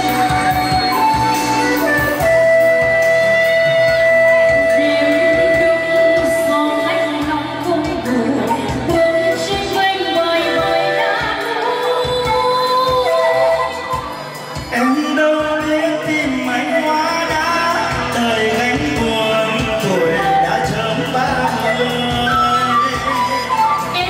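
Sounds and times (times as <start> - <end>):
live pop song with singing: 0.0 - 24.0.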